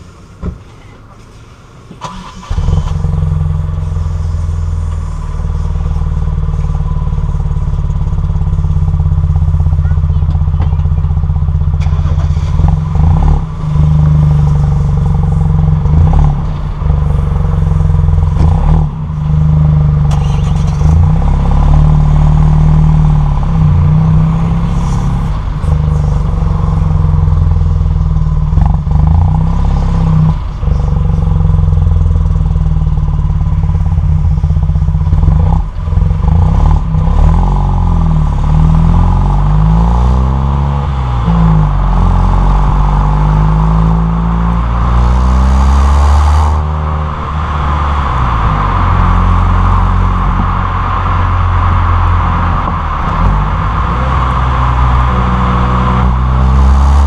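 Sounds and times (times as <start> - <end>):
car engine exhaust while driving: 0.0 - 57.0.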